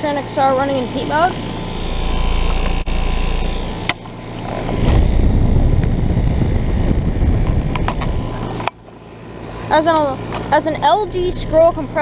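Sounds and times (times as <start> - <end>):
compressor humming: 0.0 - 12.0
fan rushing: 0.0 - 12.0.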